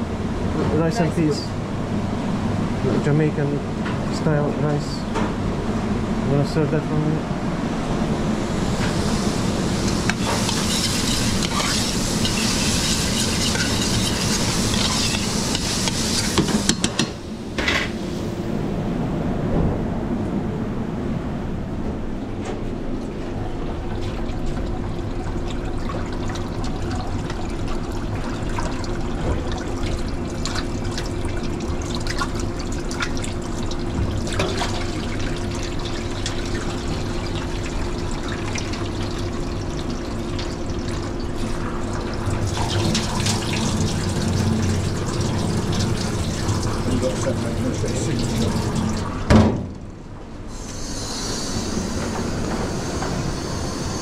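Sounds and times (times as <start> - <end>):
hum of ventilation and equipment: 0.0 - 54.0.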